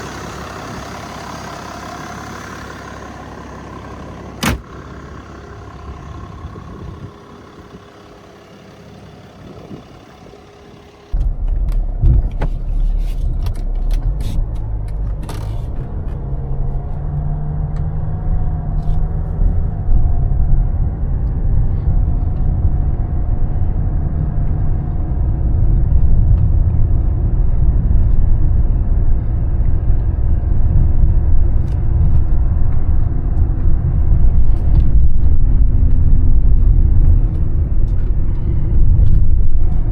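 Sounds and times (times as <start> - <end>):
diesel car engine rumble: 0.0 - 39.9.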